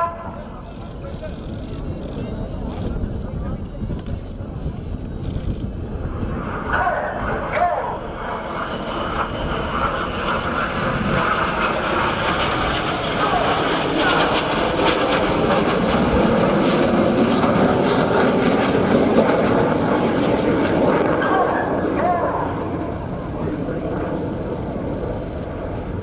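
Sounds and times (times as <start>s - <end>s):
jet engines passing: 0.0s - 26.0s.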